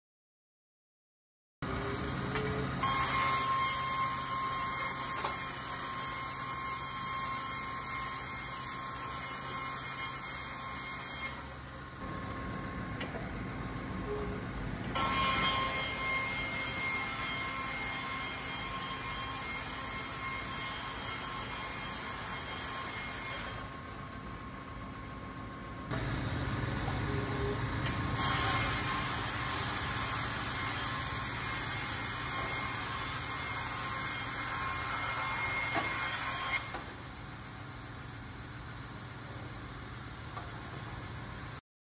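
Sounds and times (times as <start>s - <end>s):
faint high machine whine: 1.6s - 41.6s.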